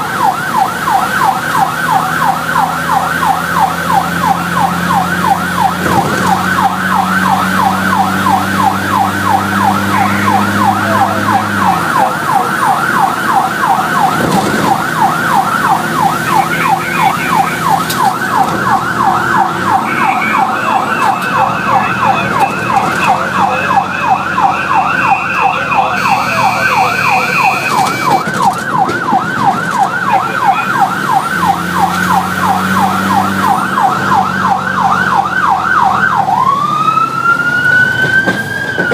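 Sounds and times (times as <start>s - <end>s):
fire engine siren yelp: 0.0s - 38.9s.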